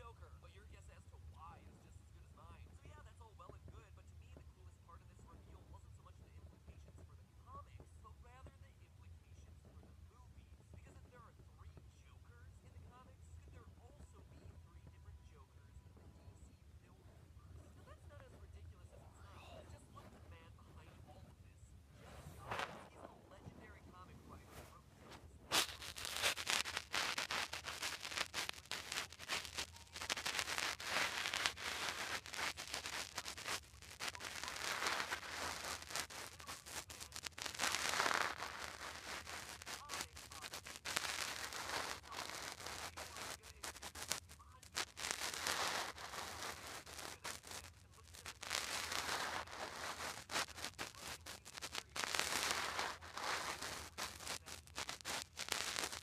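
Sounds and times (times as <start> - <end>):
distorted crackling hiss: 0.0 - 56.0
faint voice from phone speaker: 0.0 - 56.0.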